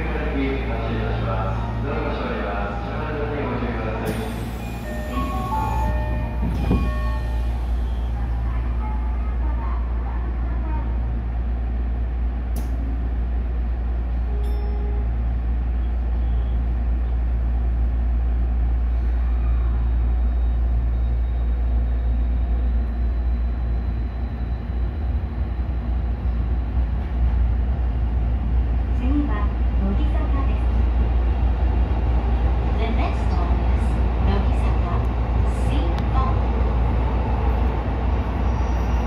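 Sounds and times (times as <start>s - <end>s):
subway train rumbling on rails: 0.0s - 39.0s.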